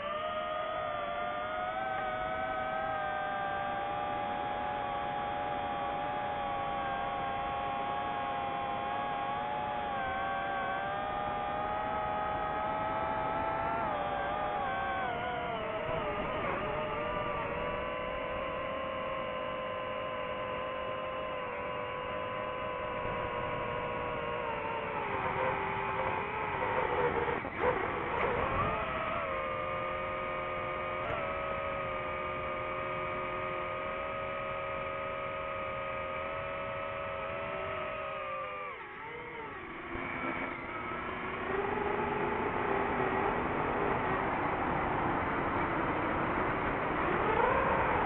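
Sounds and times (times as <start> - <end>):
drone propellers humming: 0.0 - 48.0.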